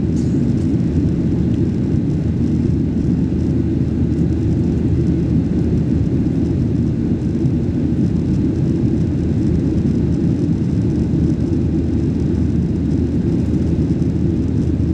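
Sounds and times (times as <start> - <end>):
jet engine roar in cabin: 0.0 - 14.9.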